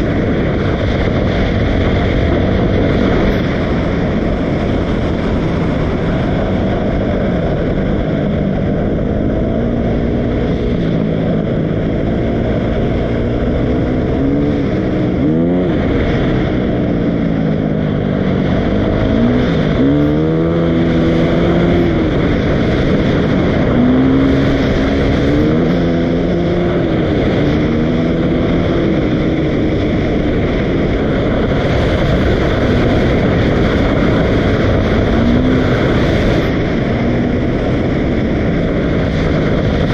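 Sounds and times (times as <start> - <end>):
dirt bike engine revving: 0.0 - 29.6, 31.5 - 37.7
steady rushing noise: 0.0 - 39.9.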